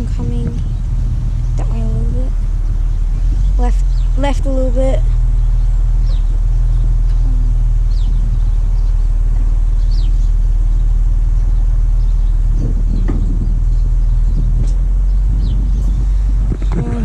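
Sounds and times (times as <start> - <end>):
car engine idling: 0.0 - 17.0
high falling bird chirps: 2.2 - 16.3.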